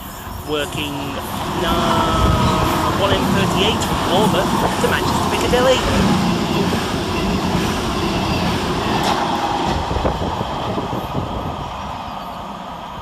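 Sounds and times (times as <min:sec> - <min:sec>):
diesel train passing: 0:00.0 - 0:13.0.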